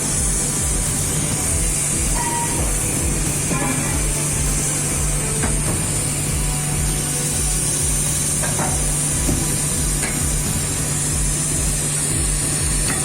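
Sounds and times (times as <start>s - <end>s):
high hiss: 0.0s - 13.0s
low machinery hum: 0.0s - 13.0s
pulsing low rumble: 0.0s - 13.0s.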